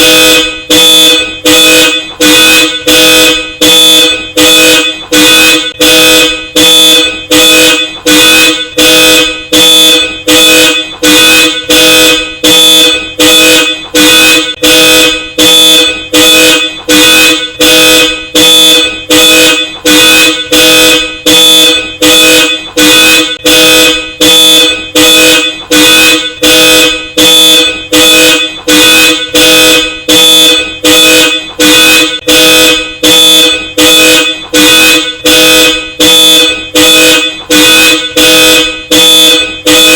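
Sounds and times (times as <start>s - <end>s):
car horn honking blasts: 0.0s - 39.9s.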